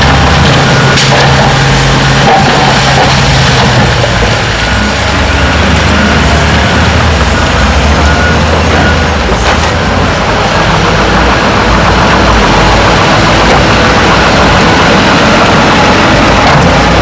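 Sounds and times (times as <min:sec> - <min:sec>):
diesel engine drone: 0:00.0 - 0:17.0
loud noisy rumble: 0:00.0 - 0:17.0.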